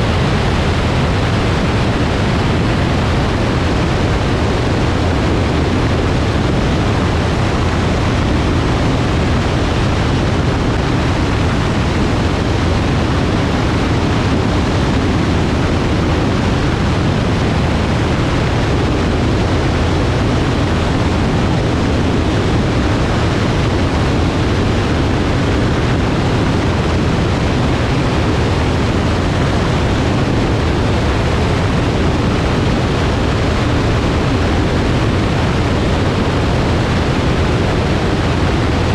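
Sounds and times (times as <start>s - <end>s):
airplane engine and propeller: 0.0s - 38.9s
wind rush over microphone: 0.0s - 38.9s.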